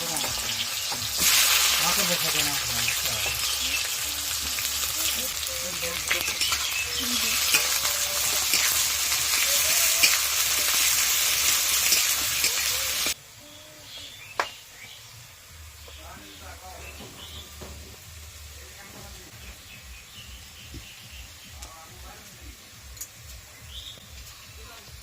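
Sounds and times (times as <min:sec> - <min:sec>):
food sizzling in hot oil: 0:00.0 - 0:21.7, 0:22.3 - 0:25.0.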